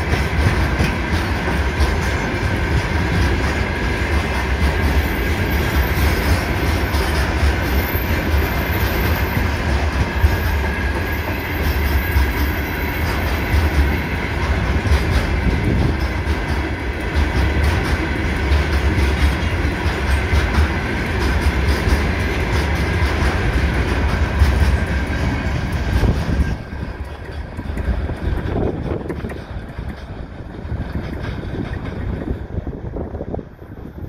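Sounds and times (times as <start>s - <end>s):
freight train rumbling past: 0.0s - 34.0s
train wheels clacking: 0.0s - 34.0s.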